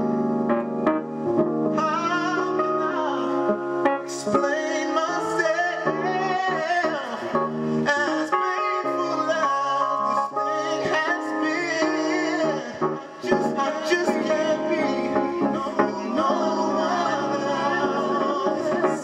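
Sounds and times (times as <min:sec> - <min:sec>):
sustained instrumental chords: 0:00.0 - 0:19.0
man singing soulful melody: 0:01.6 - 0:19.0.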